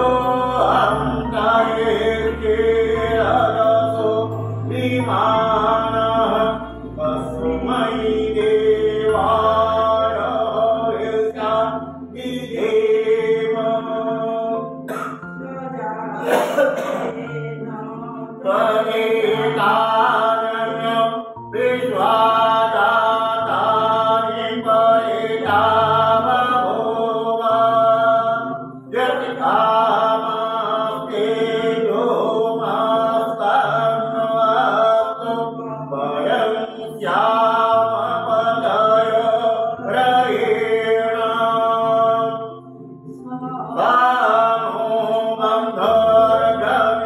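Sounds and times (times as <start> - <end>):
man chanting: 0.0 - 15.0, 18.4 - 42.6, 43.7 - 47.0.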